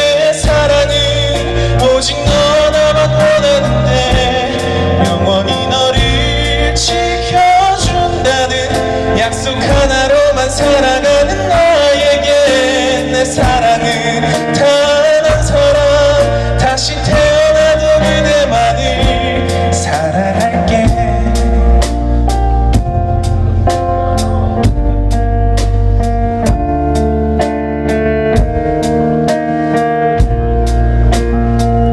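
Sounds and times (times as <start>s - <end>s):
person singing: 0.0s - 25.7s
live rock band playing: 0.0s - 31.9s.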